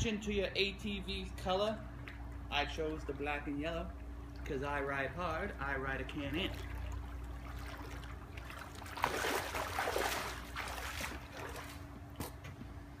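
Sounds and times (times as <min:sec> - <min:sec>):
faint steady hum: 0:00.0 - 0:13.0
water sloshing and splashing: 0:01.9 - 0:12.6.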